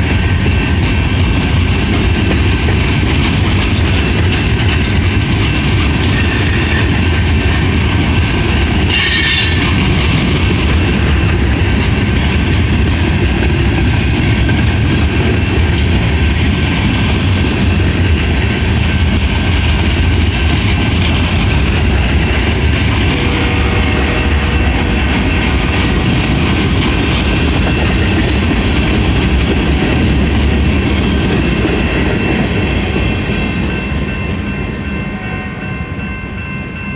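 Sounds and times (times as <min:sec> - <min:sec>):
train rumble: 0:00.0 - 0:36.9
wheels clacking over rail joints: 0:00.4 - 0:32.5.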